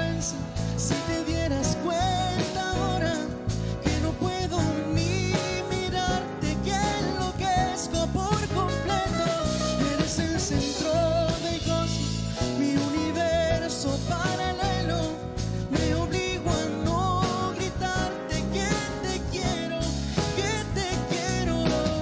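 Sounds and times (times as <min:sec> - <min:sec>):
acoustic guitar: 0:00.0 - 0:22.0
man singing a ballad: 0:00.0 - 0:22.0.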